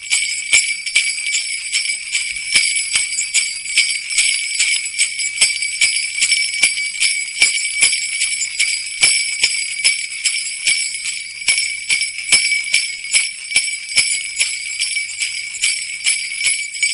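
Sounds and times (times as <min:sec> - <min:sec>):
sleigh bells jingling: 0:00.0 - 0:16.9.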